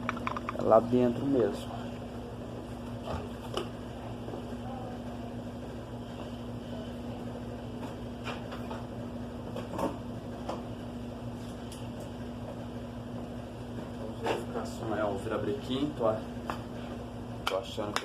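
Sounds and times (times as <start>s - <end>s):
abnormal internal engine noise: 0.0s - 18.0s.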